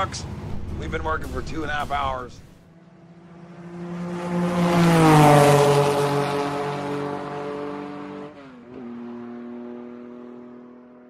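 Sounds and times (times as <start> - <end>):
engine passing by: 0.0 - 11.0.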